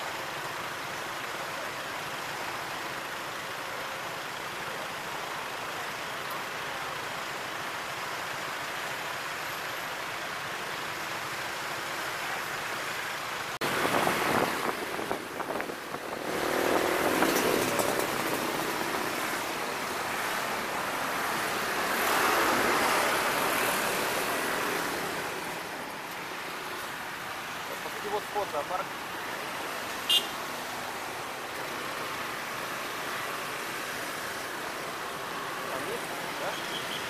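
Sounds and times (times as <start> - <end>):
road traffic noise: 0.0 - 37.0
vehicles passing close: 0.0 - 37.0.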